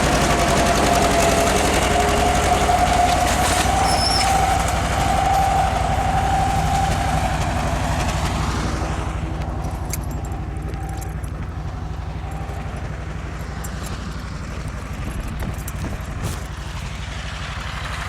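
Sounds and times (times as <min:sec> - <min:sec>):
high whine: 0:00.0 - 0:17.6
tractor engine working hard: 0:00.0 - 0:18.0.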